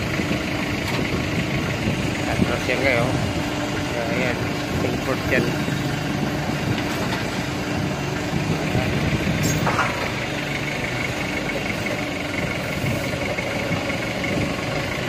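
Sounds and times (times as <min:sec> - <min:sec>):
forklift engine running: 0:00.0 - 0:15.0.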